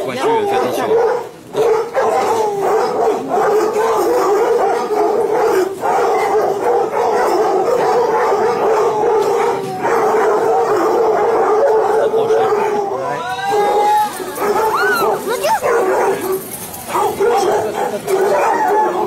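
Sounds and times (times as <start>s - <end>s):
hounds baying and howling: 0.0s - 19.0s.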